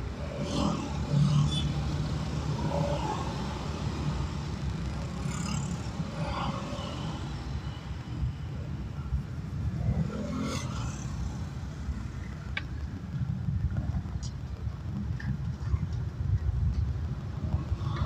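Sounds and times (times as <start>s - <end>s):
car engine and tyre rumble: 0.0s - 18.0s
vehicles passing: 0.0s - 18.0s.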